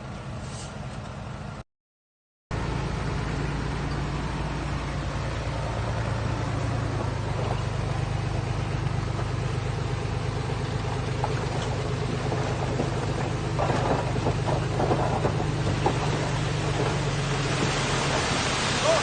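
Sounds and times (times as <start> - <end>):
diesel engine humming: 2.5 - 19.0.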